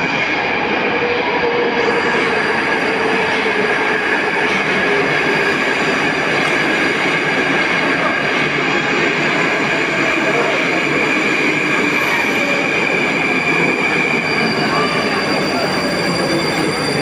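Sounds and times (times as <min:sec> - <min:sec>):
metro train wheels rushing: 0:00.0 - 0:17.0
train high whining tones: 0:00.0 - 0:17.0.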